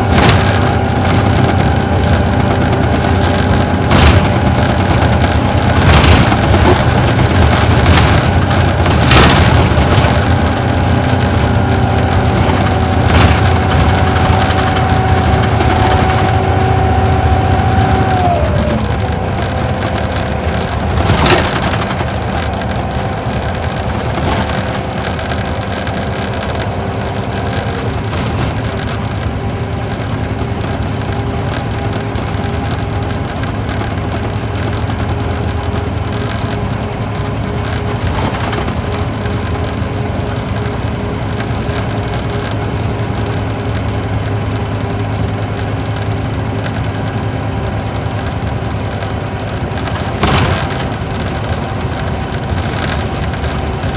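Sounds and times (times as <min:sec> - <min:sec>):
bus diesel engine drone: 0:00.0 - 0:53.9
road noise: 0:00.0 - 0:53.9
steady whine: 0:00.0 - 0:53.9.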